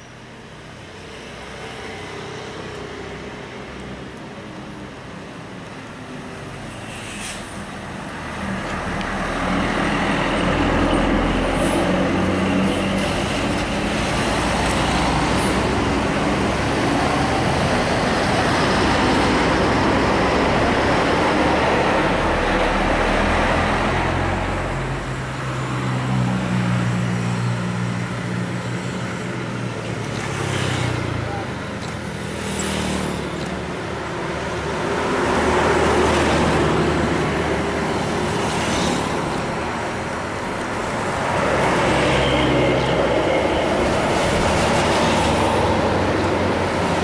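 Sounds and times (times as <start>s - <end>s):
bus driving past: 0.1s - 47.0s.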